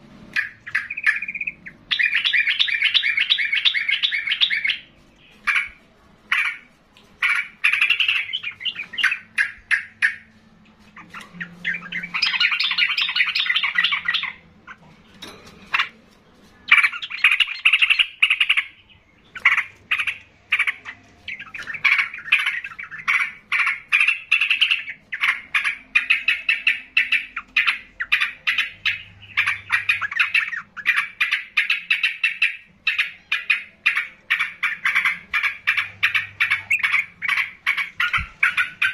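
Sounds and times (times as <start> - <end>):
bird singing chattering notes: 0.3 - 16.0, 16.6 - 38.9.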